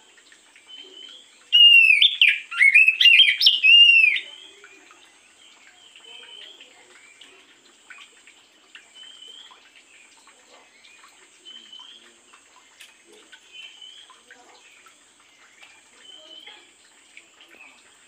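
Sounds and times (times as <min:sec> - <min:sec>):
bird chirps and ticks: 0:00.2 - 0:18.0.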